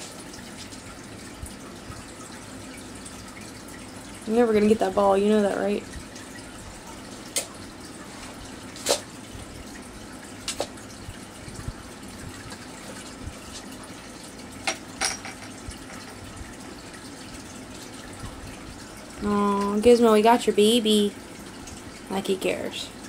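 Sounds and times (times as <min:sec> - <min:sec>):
aquarium filter trickling water: 0:00.0 - 0:23.0.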